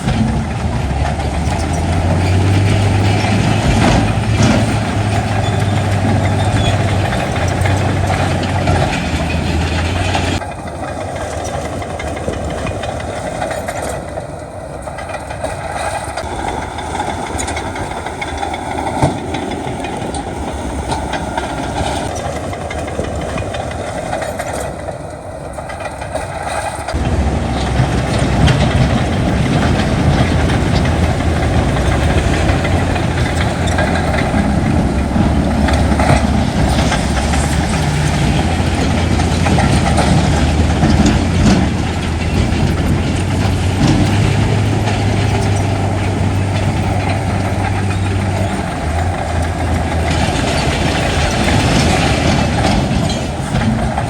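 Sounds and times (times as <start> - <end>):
heavy machinery engine drone: 0.0 - 54.0.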